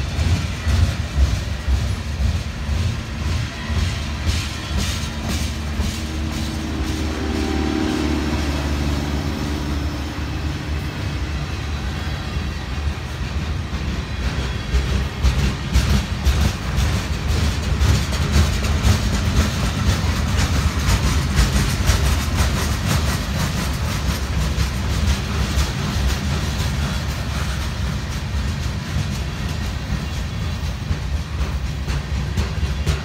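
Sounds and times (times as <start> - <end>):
freight train rumble: 0.0 - 33.0
wheels clanking on rails: 0.0 - 33.0.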